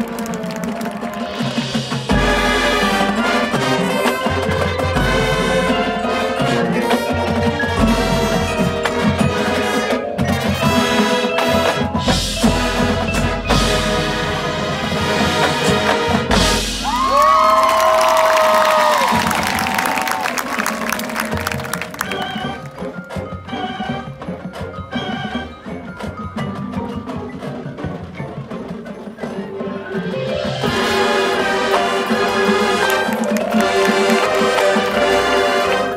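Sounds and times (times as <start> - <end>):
marching band playing: 0.0 - 35.9.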